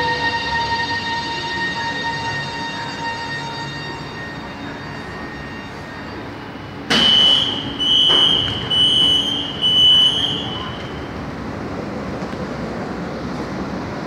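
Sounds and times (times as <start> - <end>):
subway train hum and rumble: 0.0 - 14.0.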